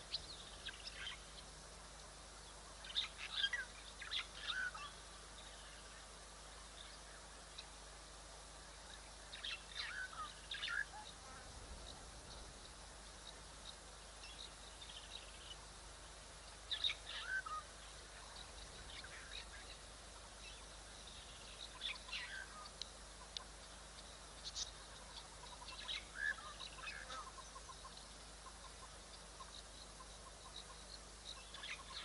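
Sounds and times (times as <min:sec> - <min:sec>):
faint outdoor background: 0:00.0 - 0:32.0.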